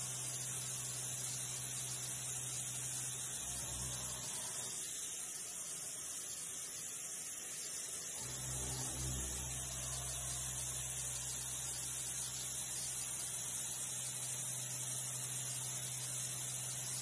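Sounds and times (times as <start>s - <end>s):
milling machine cutting steel: 0.1s - 5.0s, 8.0s - 17.0s.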